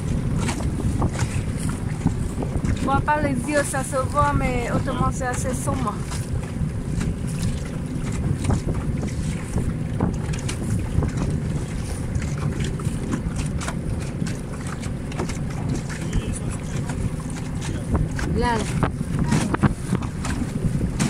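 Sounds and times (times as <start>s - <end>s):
water lapping against boat hull: 0.0s - 21.0s
wind buffeting microphone: 0.0s - 21.0s.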